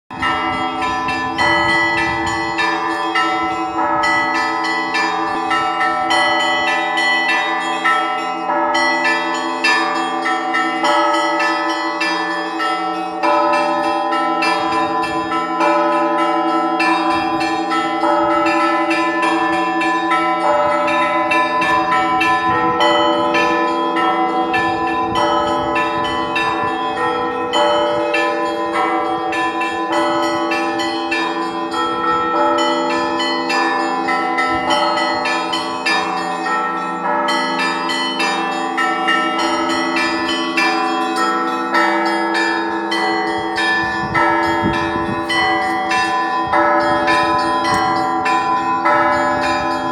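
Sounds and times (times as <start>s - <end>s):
lingering hum of large bells: 0.1s - 49.9s
small church bells ringing: 0.1s - 49.9s.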